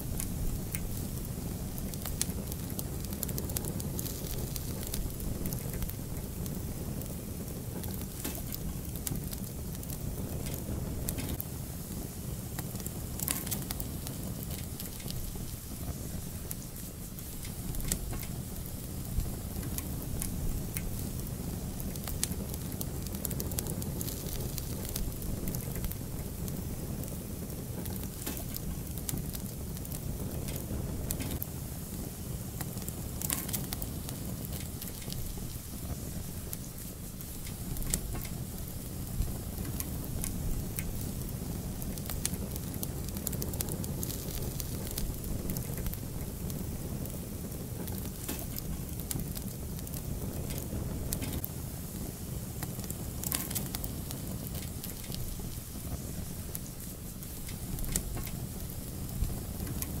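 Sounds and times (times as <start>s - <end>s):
fire crackles and pops: 0.0s - 60.0s
low rumble of flames: 0.0s - 60.0s.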